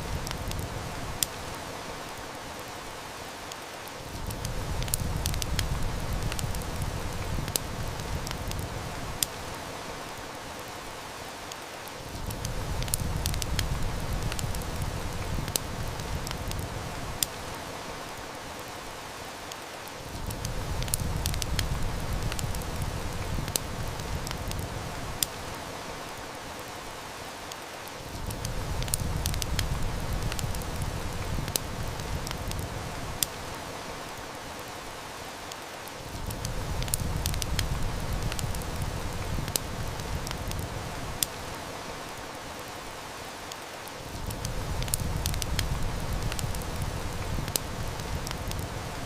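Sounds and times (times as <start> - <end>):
heavy rain hissing: 0.0 - 49.0
wood fire crackling: 0.0 - 49.0.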